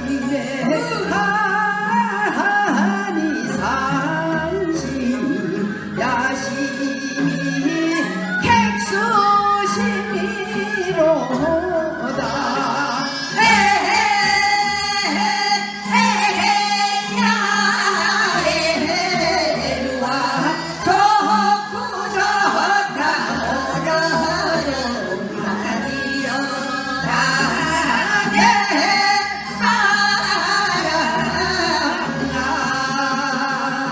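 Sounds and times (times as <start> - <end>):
folk song with wavering held notes: 0.0 - 33.9
instrumental accompaniment: 0.0 - 33.9.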